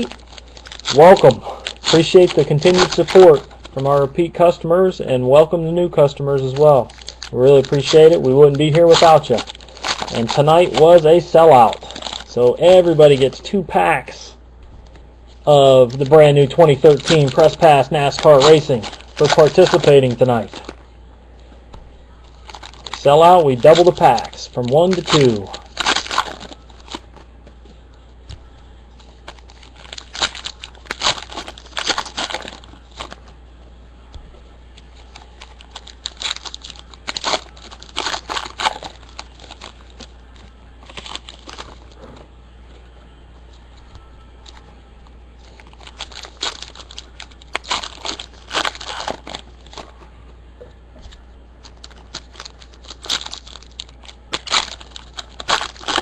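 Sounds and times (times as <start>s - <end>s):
foil wrappers crinkling and tearing: 0.0s - 14.2s, 15.3s - 20.8s, 22.2s - 27.4s, 29.0s - 33.3s, 34.7s - 42.2s, 45.4s - 50.1s, 51.1s - 56.0s.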